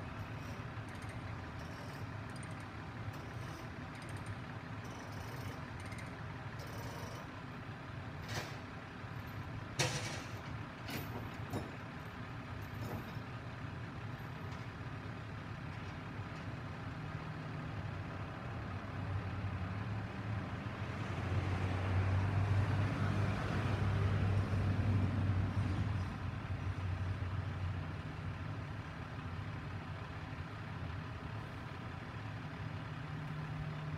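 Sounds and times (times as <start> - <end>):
heavy truck engine running: 0.0 - 33.9.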